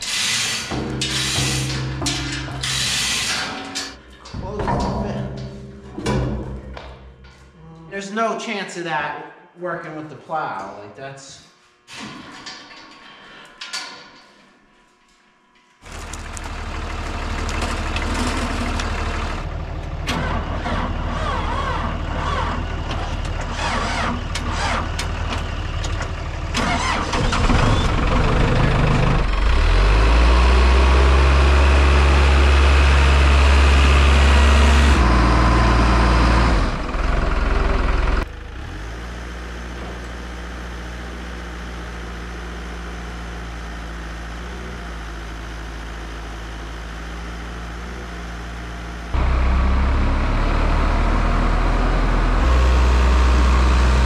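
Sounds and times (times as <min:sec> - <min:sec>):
engine starting and running: 0:00.0 - 0:07.5, 0:11.9 - 0:14.2, 0:15.8 - 0:48.0, 0:49.1 - 0:54.0.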